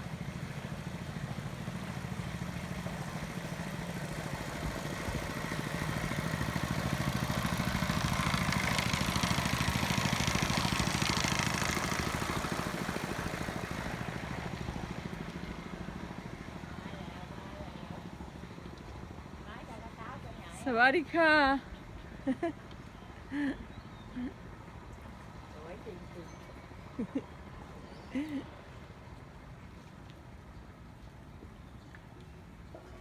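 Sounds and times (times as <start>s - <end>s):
boat engine passing: 0.0s - 29.8s.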